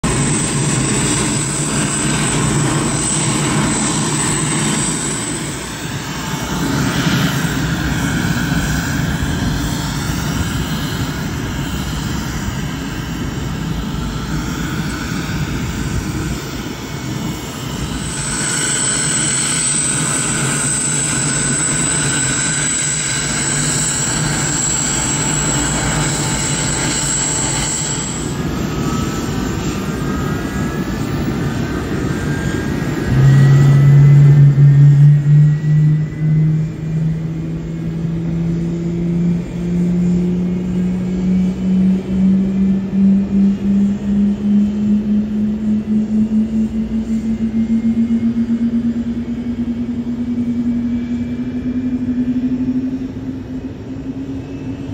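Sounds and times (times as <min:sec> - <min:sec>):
jet turbines whining: 0:00.0 - 0:54.9.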